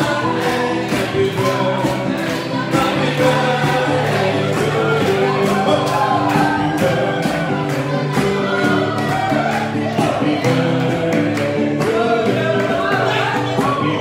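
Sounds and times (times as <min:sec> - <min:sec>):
chorus singing over a beat: 0:00.0 - 0:14.0.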